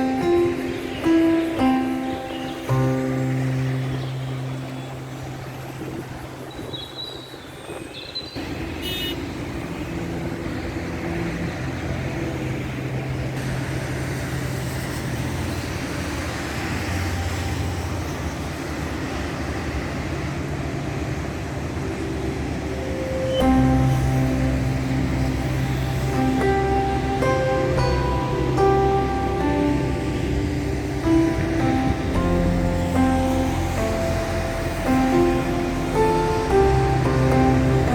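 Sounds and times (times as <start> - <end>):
low engine hum: 0.0 - 7.4, 8.4 - 37.9
road noise: 0.0 - 37.9.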